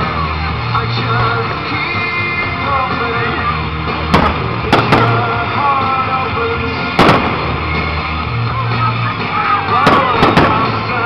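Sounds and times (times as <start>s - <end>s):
fireworks bursting with bangs: 0.0s - 11.0s
loud music with melody: 0.0s - 11.0s.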